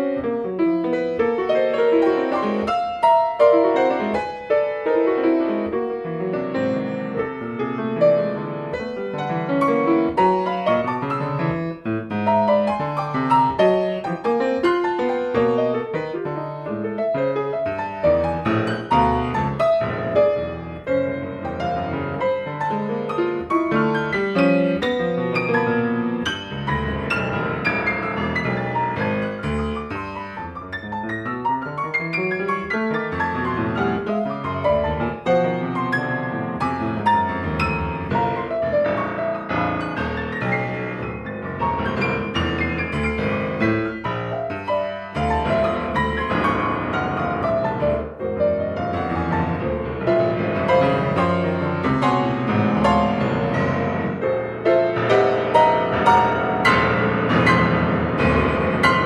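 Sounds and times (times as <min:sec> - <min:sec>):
grand piano playing fast notes: 0:00.0 - 0:59.0.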